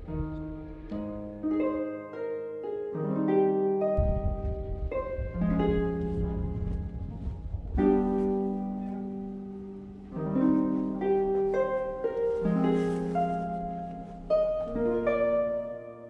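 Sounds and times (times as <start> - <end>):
slow gentle instrumental music: 0.0 - 16.0.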